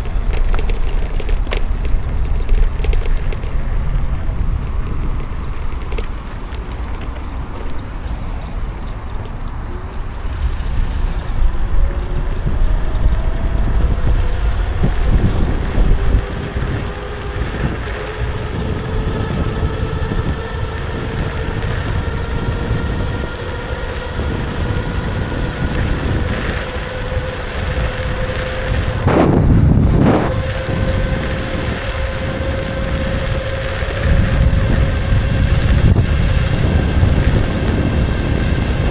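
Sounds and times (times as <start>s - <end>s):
electric motor whine: 0.0s - 38.9s
road rumble: 0.0s - 38.9s
wind buffeting microphone: 0.0s - 38.9s.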